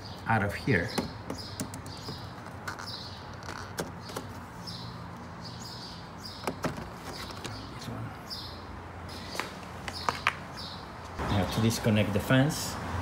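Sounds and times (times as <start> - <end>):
bird chirping: 0.0 - 11.8.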